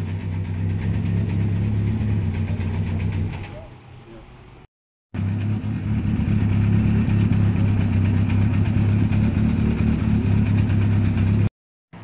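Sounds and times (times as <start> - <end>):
rally car engine idling: 0.0 - 4.6, 5.2 - 12.0.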